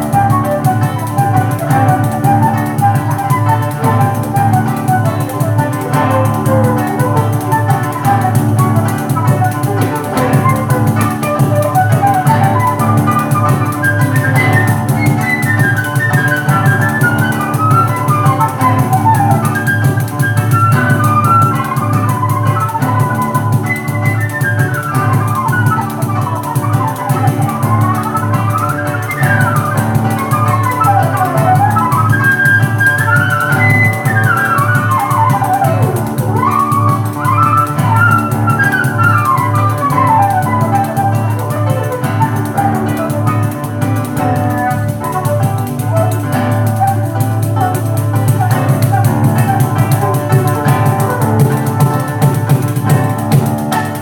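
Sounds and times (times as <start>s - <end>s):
flute playing quick runs: 0.0s - 54.0s
frame drum beat: 0.0s - 54.0s.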